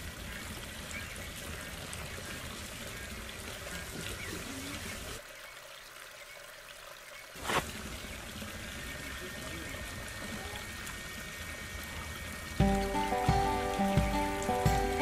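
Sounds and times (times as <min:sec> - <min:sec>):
water trickling into a plastic bucket: 0:00.0 - 0:15.0.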